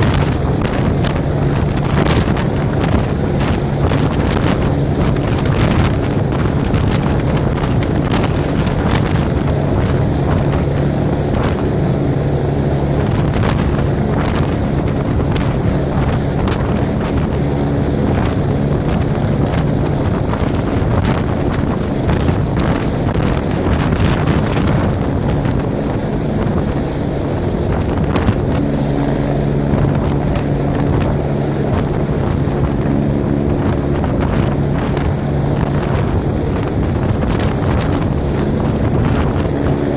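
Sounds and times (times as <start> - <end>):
helicopter rotor and turbine engine: 0.0 - 39.9.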